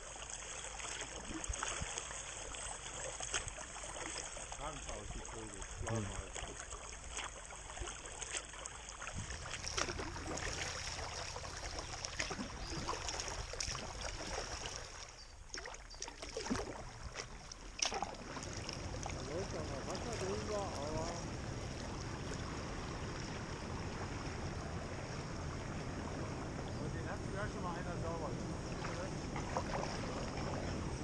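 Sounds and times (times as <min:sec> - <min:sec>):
kayak paddle splashing: 0:00.0 - 0:31.0
water trickling: 0:00.0 - 0:31.0.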